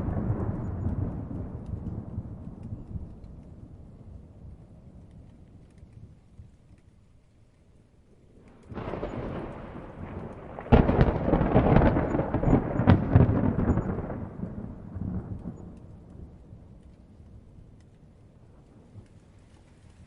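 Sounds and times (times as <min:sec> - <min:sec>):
thunder rumbling and cracking: 0:00.0 - 0:06.9, 0:08.2 - 0:20.0
faint rain falling: 0:00.0 - 0:20.0.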